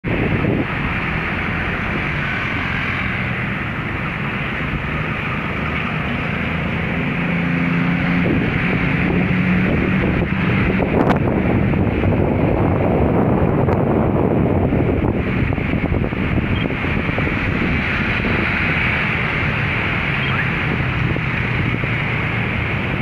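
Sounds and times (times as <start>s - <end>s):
wind on microphone: 0.0s - 23.0s
locomotive engine humming: 0.1s - 23.0s.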